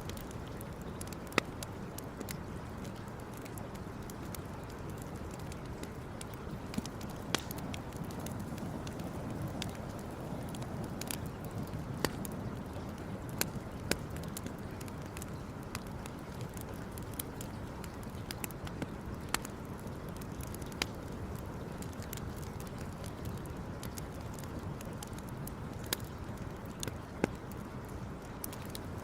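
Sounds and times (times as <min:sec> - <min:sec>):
campfire crackling: 0:00.0 - 0:29.0
low background noise: 0:00.0 - 0:29.0.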